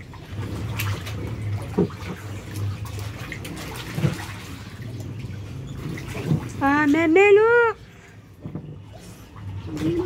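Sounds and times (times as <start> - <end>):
water sloshing in pool: 0.0 - 10.0.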